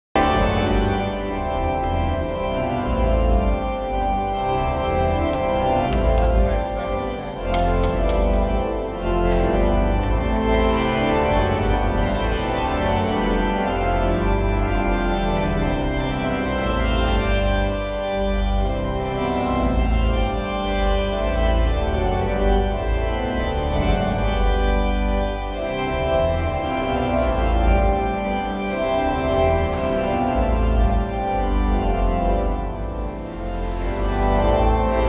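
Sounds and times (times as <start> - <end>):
organ playing chords: 0.2 - 35.0.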